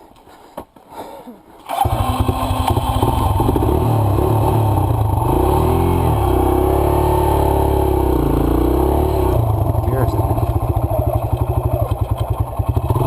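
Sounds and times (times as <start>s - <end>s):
dirt bike engine idling: 1.8s - 13.0s.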